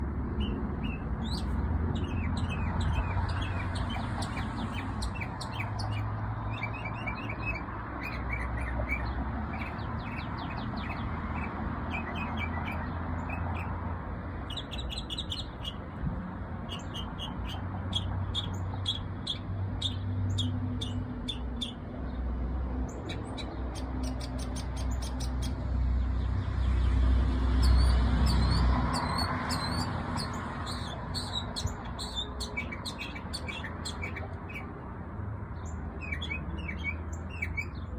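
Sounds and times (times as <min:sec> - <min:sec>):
songbird chirping and trilling: 0:00.3 - 0:16.0, 0:16.6 - 0:34.9, 0:35.5 - 0:37.9.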